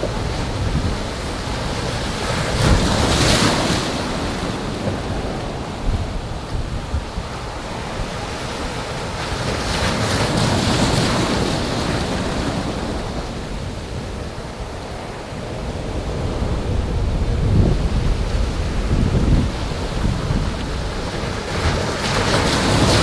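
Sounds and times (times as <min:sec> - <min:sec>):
rough sea waves breaking: 0:00.0 - 0:23.0
wind on microphone: 0:00.0 - 0:23.0.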